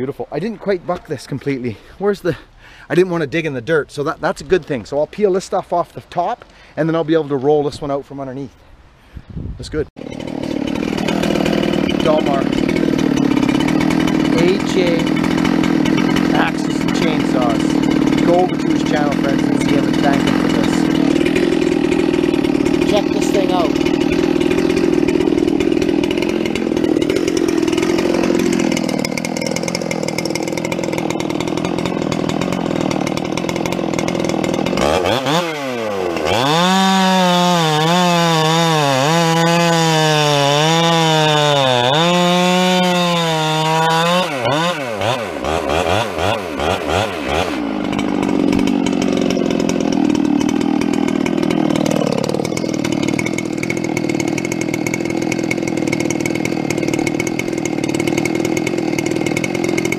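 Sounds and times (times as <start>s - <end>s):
chainsaw cutting log: 10.0s - 59.9s.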